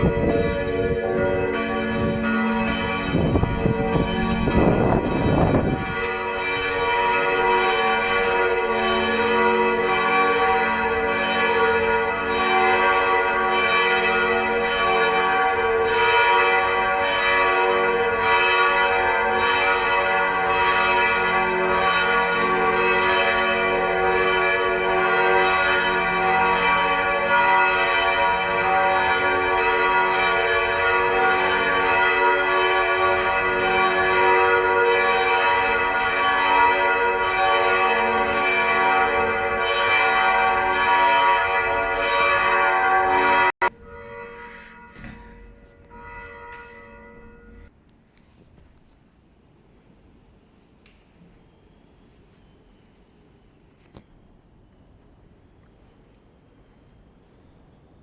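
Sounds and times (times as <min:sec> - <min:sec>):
church bells pealing: 0:00.0 - 0:47.7.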